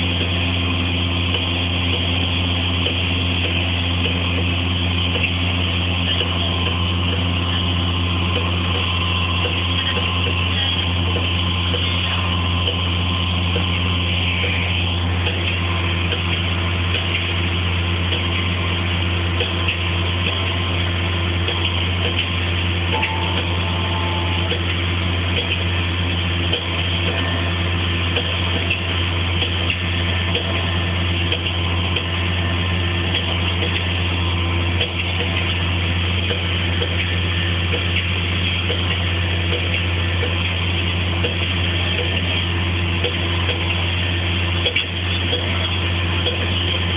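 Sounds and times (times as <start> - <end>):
tractor diesel engine drone: 0.0 - 46.9.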